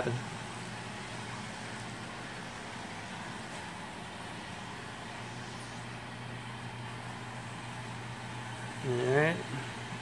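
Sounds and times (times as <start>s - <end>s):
electrical equipment hum and hiss: 0.0s - 10.0s.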